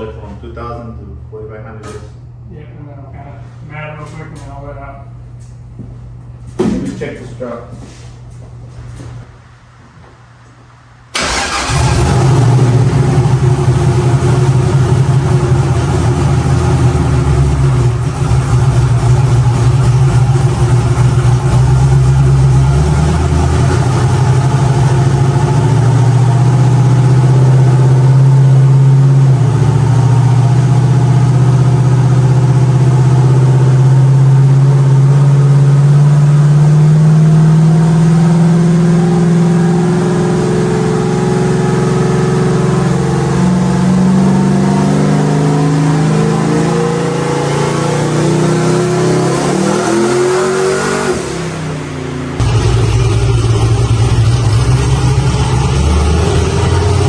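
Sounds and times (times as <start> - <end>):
loud car engine running: 11.2 - 57.0.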